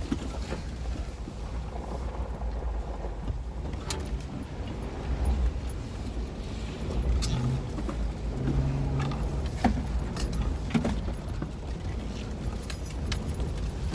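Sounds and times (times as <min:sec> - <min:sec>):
knocks and rattles over rough ground: 0:00.0 - 0:13.9
vehicle engine and road rumble: 0:00.0 - 0:13.9.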